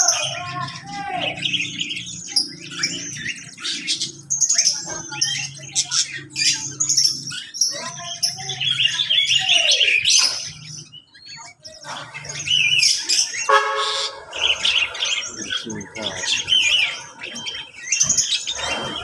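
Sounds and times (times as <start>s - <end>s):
cage birds chirping and twittering: 0.0s - 19.0s.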